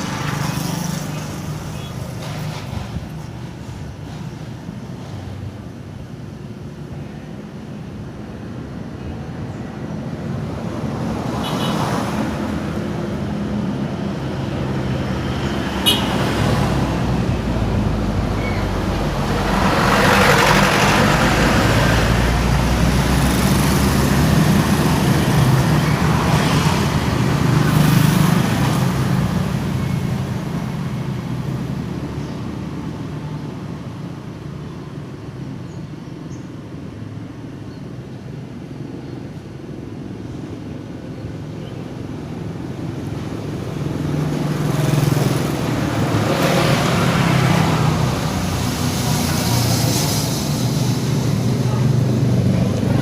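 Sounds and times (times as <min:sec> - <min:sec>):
motorbikes passing: 0:00.0 - 0:04.7, 0:10.2 - 0:35.6, 0:40.2 - 0:53.0
cars passing: 0:00.0 - 0:53.0.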